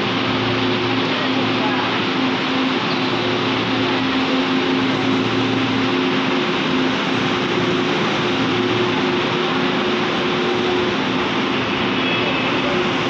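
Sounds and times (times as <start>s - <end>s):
low hum: 0.0s - 13.0s
train rushing noise: 0.0s - 13.0s.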